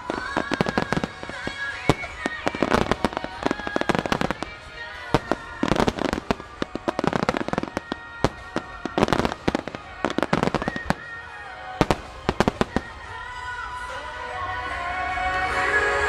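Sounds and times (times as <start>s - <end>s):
fireworks bangs: 0.0s - 14.1s
music soundtrack: 0.0s - 16.0s.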